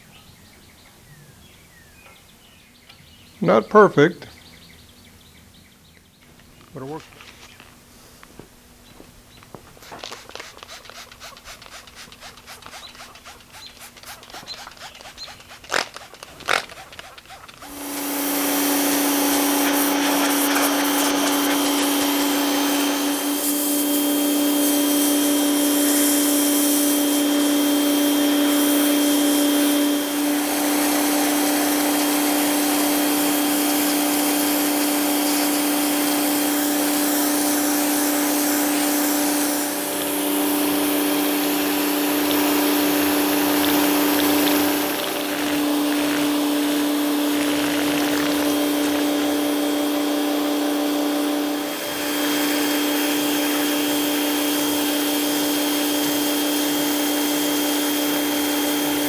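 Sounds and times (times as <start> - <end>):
power tool grinding: 9.8 - 59.0.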